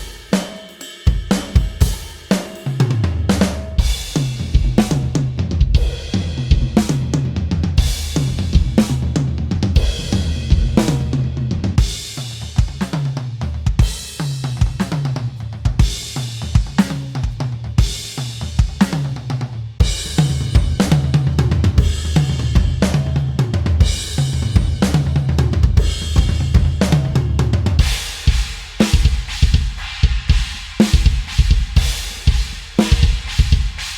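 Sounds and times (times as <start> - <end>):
drum kit groove: 0.0 - 33.9.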